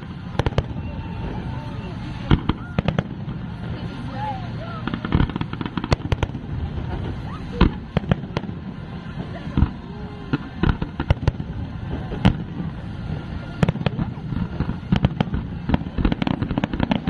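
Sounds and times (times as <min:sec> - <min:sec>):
fireworks bangs and crackles: 0:00.0 - 0:17.0
low rumble of bursts: 0:00.0 - 0:17.0.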